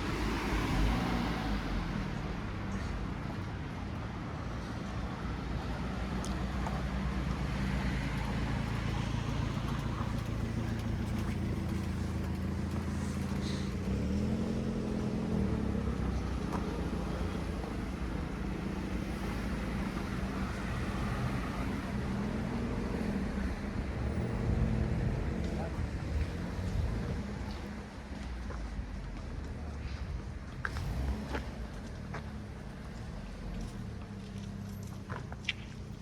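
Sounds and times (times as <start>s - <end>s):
car engines running: 0.0s - 36.0s.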